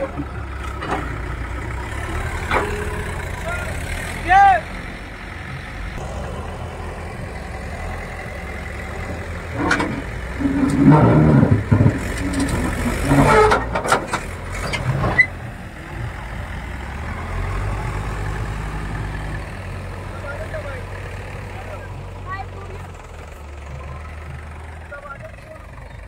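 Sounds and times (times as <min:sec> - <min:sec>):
diesel engine working under load: 0:00.0 - 0:26.0.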